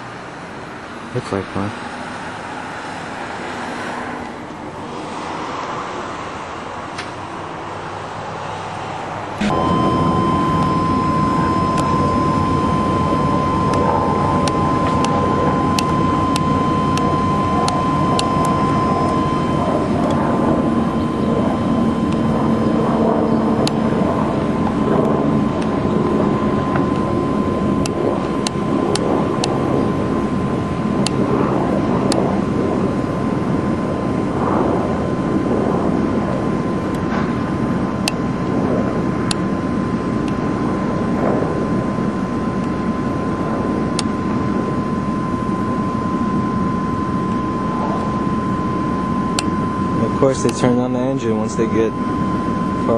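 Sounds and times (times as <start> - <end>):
helicopter engine and rotor drone: 0.0 - 52.9
thin high whine: 0.0 - 52.9.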